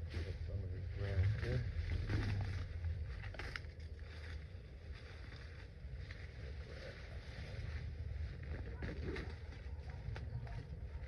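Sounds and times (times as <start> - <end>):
faint rustling of pulled grass: 0.0 - 11.0
wind rumble on microphone: 0.0 - 11.0.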